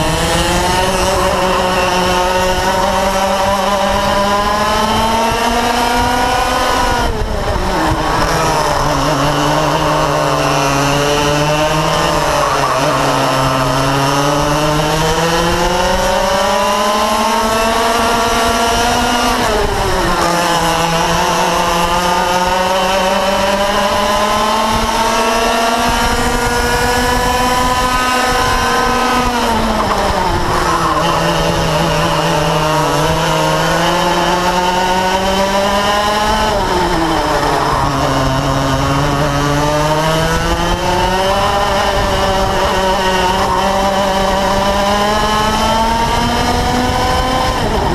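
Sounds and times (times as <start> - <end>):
kart engine revving: 0.0 - 47.9.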